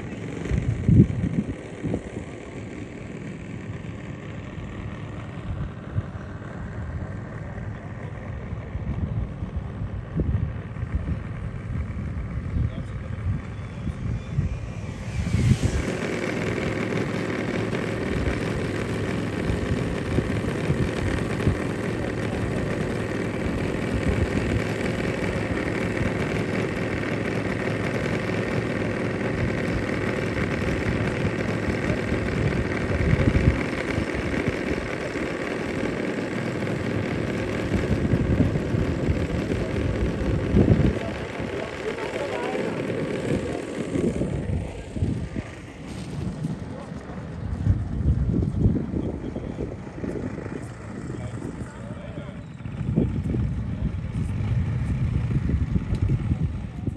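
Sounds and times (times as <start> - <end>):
model airplane propeller engine: 0.0 - 56.9.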